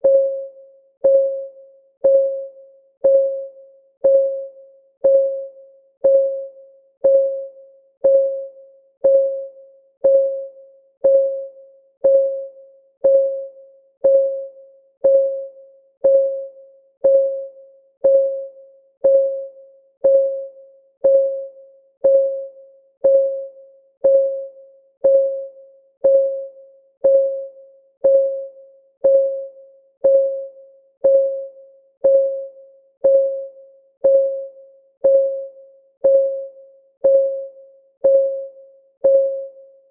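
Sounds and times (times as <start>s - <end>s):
timer ticking pings: 0.0s - 39.7s.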